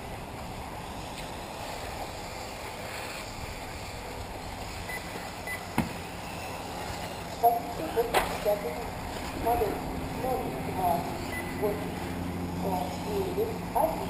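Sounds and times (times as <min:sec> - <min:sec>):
faint rc cars running: 0:00.0 - 0:14.0.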